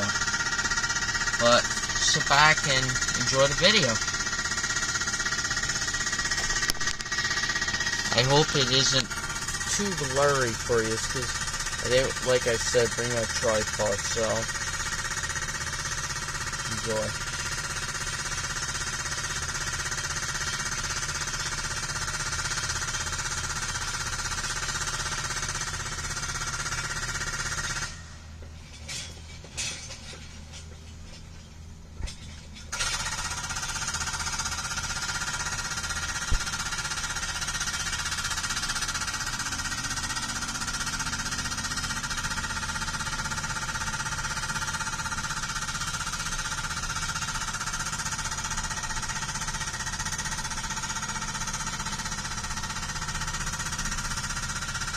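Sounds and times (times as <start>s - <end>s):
hydraulic breaker hammering rock: 0.0s - 54.9s.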